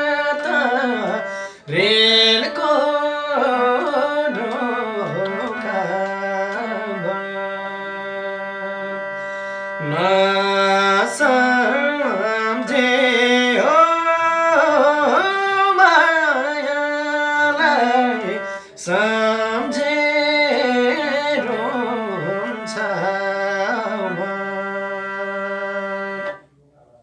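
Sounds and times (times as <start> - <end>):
ornamented folk melody: 0.0 - 26.5.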